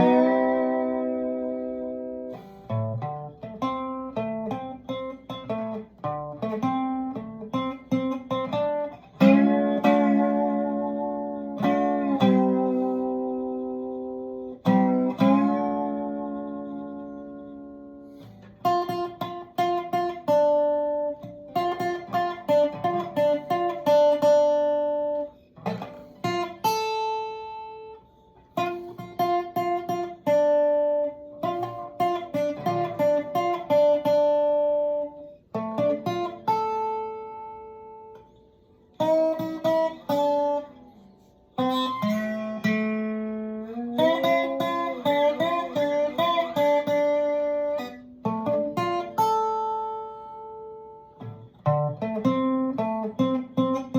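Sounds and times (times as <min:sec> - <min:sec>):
plucked guitar notes: 0:00.0 - 0:53.9.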